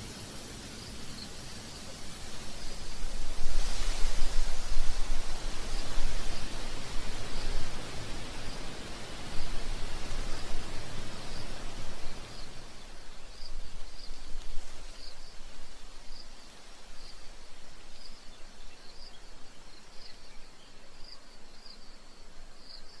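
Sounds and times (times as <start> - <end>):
white-noise hiss: 0.0 - 23.0.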